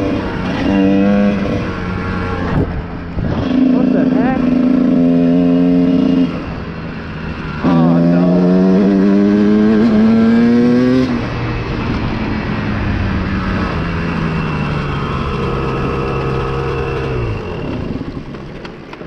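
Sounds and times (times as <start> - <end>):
dirt bike engine revving: 0.0 - 11.8, 13.4 - 18.0.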